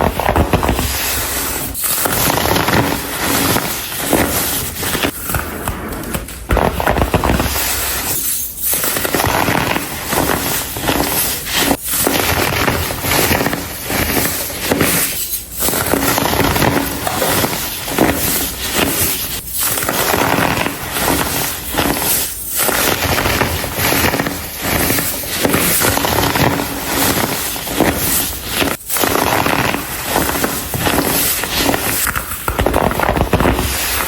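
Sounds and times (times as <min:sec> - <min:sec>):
baking soda blocks crunching: 0:06.7 - 0:34.0.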